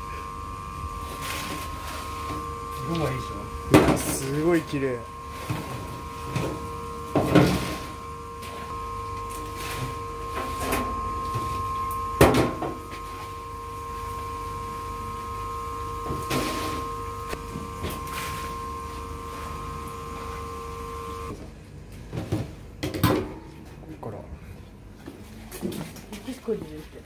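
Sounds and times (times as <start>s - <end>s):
machine hum: 0.0s - 21.7s
low rumble of boiling equipment: 0.0s - 25.1s.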